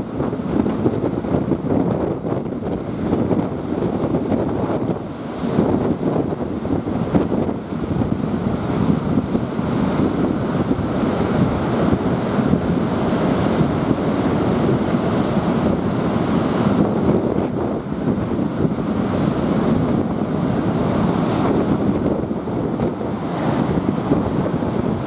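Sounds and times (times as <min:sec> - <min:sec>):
storm waves breaking on beach: 0:00.0 - 0:25.0
strong wind gusting on microphone: 0:00.0 - 0:25.0.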